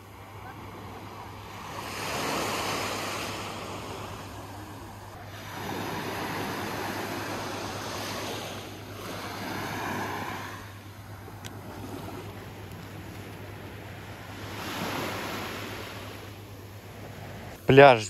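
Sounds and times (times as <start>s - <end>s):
small waves breaking on beach: 0.0s - 17.8s.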